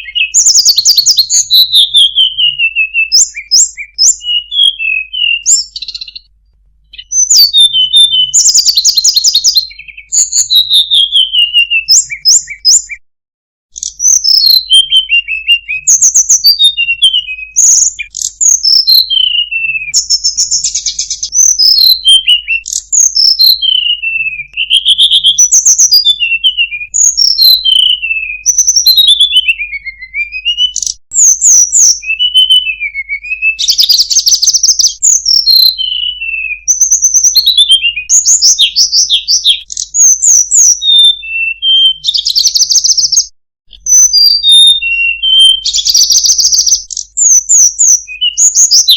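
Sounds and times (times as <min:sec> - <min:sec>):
songbird chirps and whistles: 0:00.0 - 0:13.0, 0:13.7 - 0:48.9.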